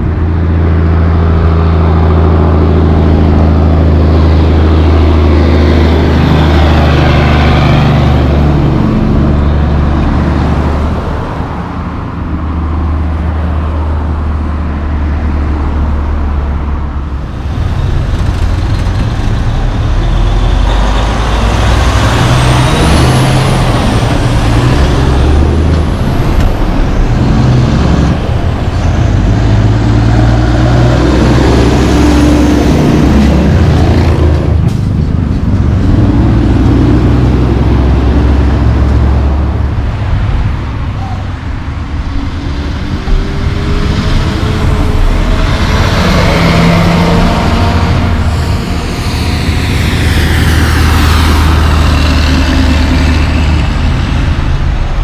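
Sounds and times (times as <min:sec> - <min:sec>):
road traffic passing: 0:00.0 - 0:55.0.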